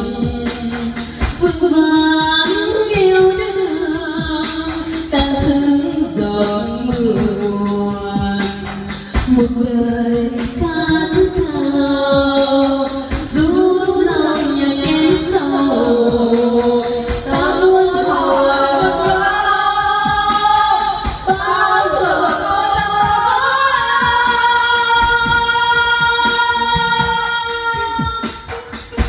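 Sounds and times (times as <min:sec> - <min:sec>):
backing track music: 0:00.0 - 0:29.0
women singing karaoke: 0:00.0 - 0:29.0.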